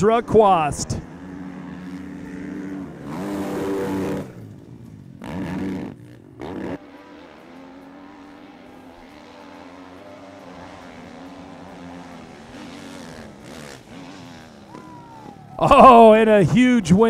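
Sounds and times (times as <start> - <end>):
distant dirt bike engines racing: 0.0 - 17.0.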